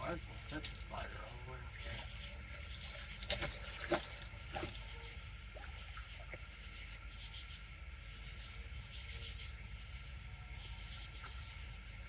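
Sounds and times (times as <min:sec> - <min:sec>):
crickets chirping: 0:00.0 - 0:12.0
low background hum: 0:00.0 - 0:12.0.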